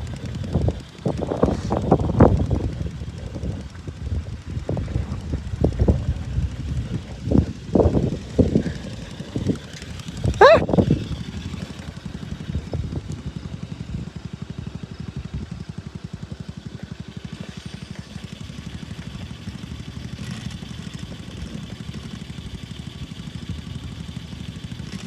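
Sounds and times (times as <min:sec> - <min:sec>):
ride-on lawn mower engine: 0:00.0 - 0:25.0.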